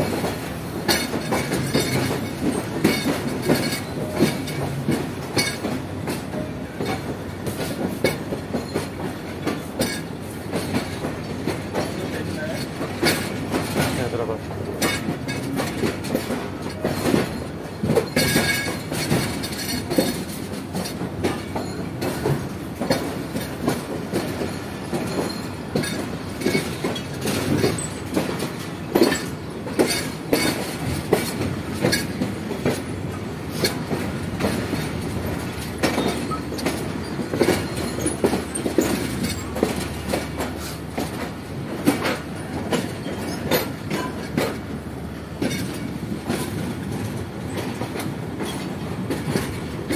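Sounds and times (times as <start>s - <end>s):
train coach rumble and rattle: 0.0s - 49.9s
wheels clanking over rails: 0.0s - 49.9s.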